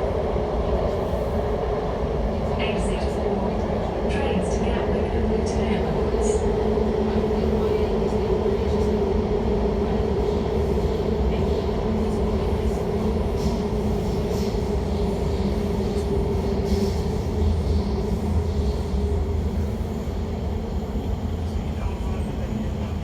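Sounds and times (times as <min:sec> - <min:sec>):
train rumbling in tunnel: 0:00.0 - 0:23.0.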